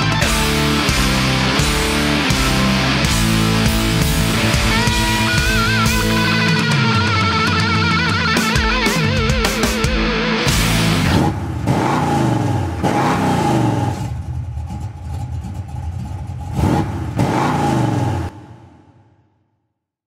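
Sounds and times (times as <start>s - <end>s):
motocross engines revving: 0.0s - 9.8s, 10.4s - 18.6s.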